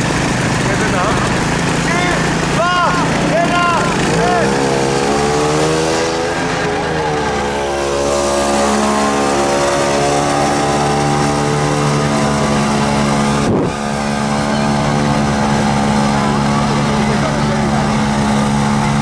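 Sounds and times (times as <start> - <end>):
tractor engine at high revs: 0.0 - 19.0.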